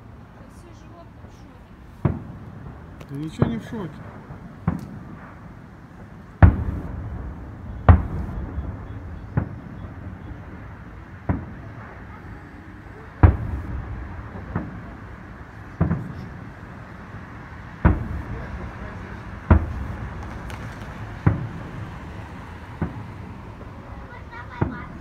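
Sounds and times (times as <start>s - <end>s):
firework shells bursting: 2.0s - 12.2s, 13.2s - 25.0s
rumbling echo: 2.0s - 25.0s.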